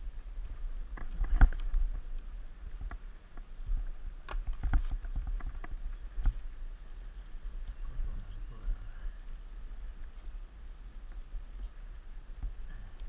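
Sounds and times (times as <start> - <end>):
wind rumble: 0.0 - 13.0.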